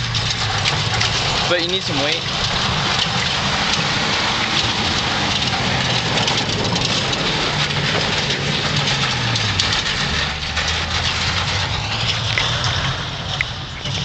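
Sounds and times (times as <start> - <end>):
pickup engine running hard: 0.0 - 14.0.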